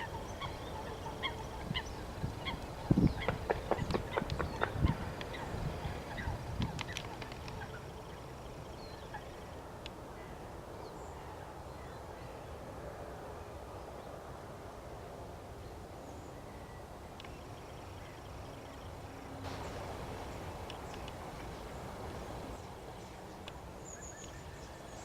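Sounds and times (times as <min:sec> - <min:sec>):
open-air background noise: 0:00.0 - 0:25.0.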